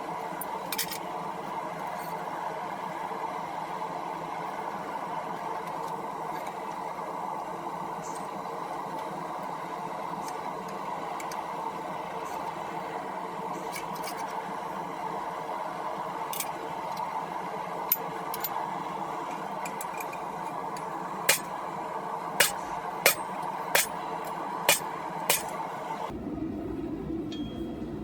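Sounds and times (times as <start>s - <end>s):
forge humming: 0.0s - 28.0s.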